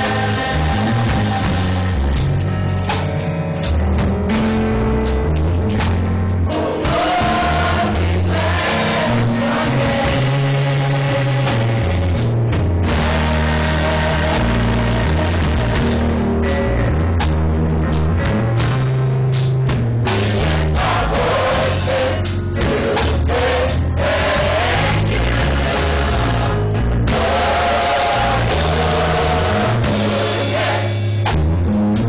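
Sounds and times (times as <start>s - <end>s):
gospel choir singing with band: 0.0s - 3.7s, 6.4s - 17.2s, 20.0s - 31.4s.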